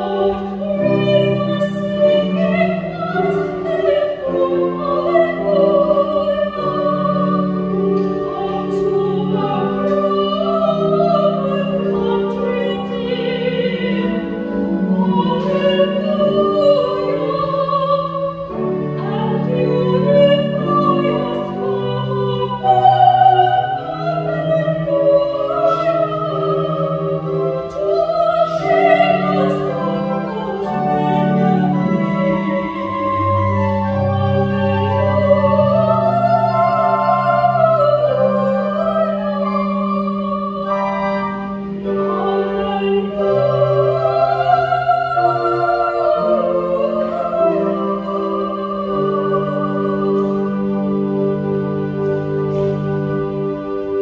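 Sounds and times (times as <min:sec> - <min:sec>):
soprano singing with vibrato: 0:00.0 - 0:51.2
sustained low accompaniment: 0:00.0 - 0:54.0.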